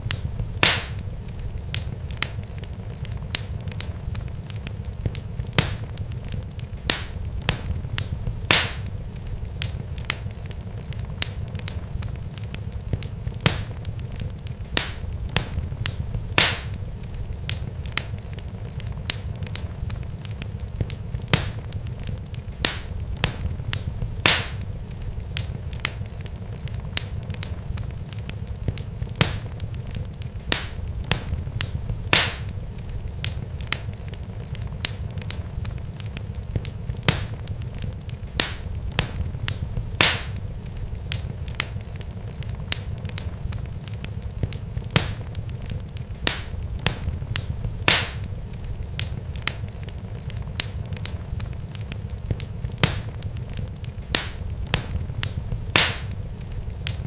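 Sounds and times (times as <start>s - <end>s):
steady low rumble: 0.0s - 49.6s
sharp pops and crackles: 0.0s - 57.0s.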